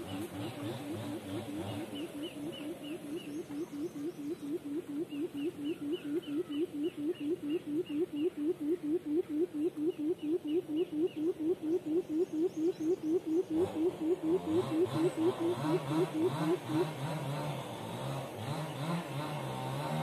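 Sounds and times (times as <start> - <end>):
quail low hoots: 0.0 - 17.8.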